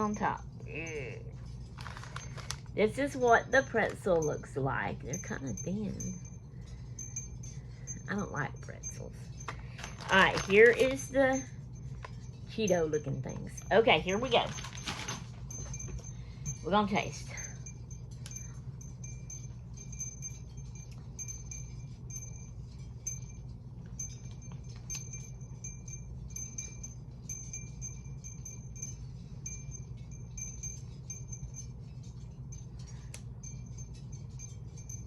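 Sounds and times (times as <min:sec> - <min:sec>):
steady low hum: 0:00.0 - 0:35.0
wind chimes tinkling: 0:00.0 - 0:35.0.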